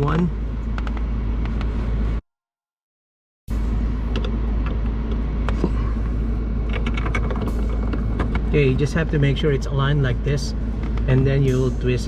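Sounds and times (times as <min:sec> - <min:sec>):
steady low rumble: 0:00.0 - 0:02.2, 0:03.5 - 0:12.0.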